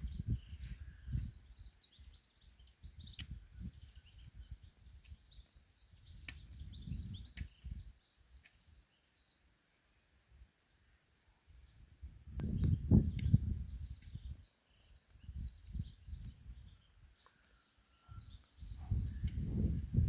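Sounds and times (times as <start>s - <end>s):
small birds chirping: 0.0s - 9.8s, 10.7s - 20.0s.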